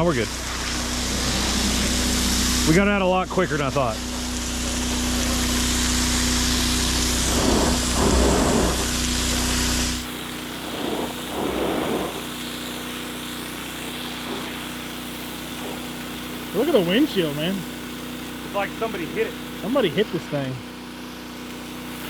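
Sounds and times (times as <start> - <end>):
pressure washer engine running: 0.0 - 22.0
pressure washer spraying water: 0.0 - 22.0.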